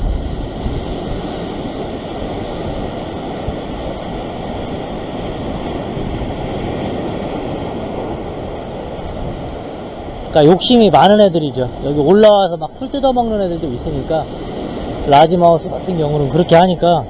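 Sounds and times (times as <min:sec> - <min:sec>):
ocean surf against rock: 0:00.0 - 0:17.0.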